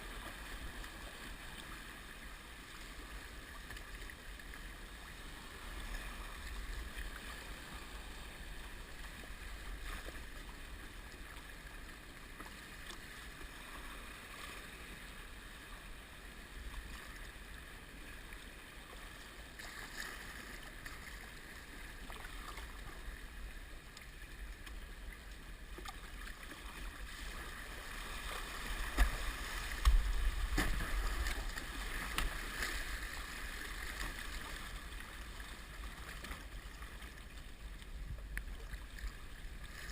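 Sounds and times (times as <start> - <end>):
water splashing around a kayak: 0.0 - 39.9.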